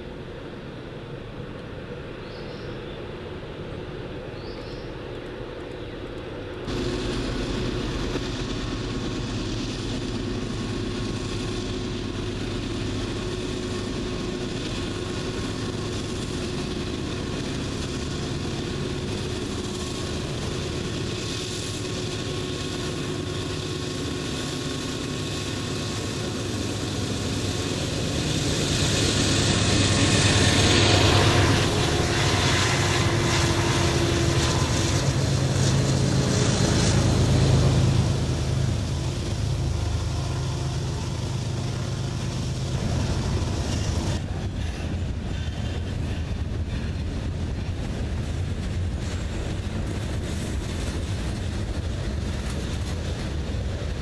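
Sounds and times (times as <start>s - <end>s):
diesel locomotive engines droning: 0.0s - 54.0s
freight cars rolling past: 6.5s - 54.0s.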